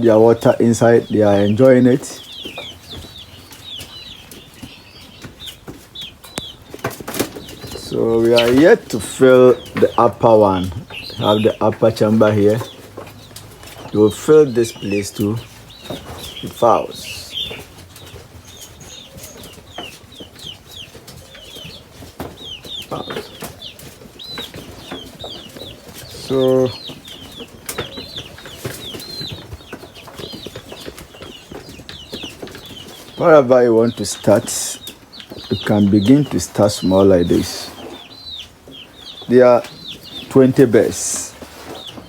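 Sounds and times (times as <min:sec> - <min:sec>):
chicks peeping: 0:00.0 - 0:42.0
rustling of birds moving: 0:00.0 - 0:42.0.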